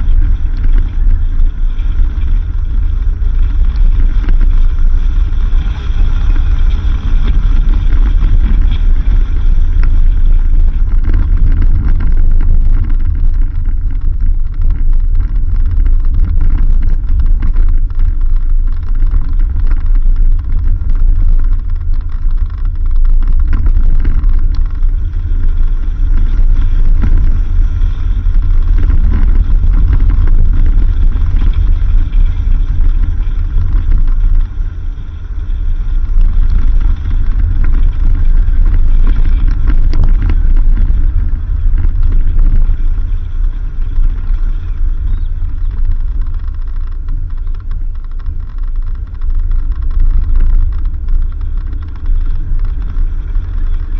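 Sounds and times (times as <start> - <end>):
rough fluttering buffeting: 0.0 - 53.9
vehicle driving on dirt road: 0.0 - 53.9.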